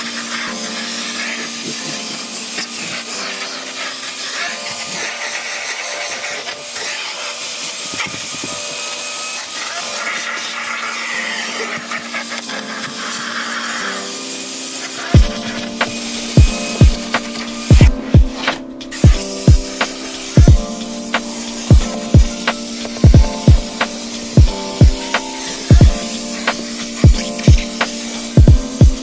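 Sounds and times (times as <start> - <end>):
vacuum cleaner sucking over carpet: 0.0 - 29.0.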